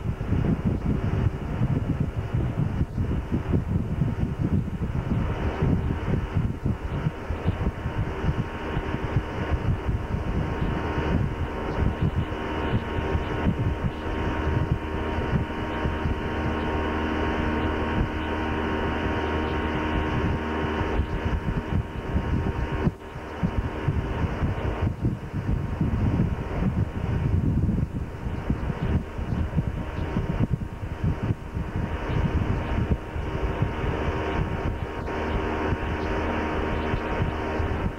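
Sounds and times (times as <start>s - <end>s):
motorboat engine drone: 0.0s - 37.9s
wind buffeting microphone: 0.0s - 37.9s.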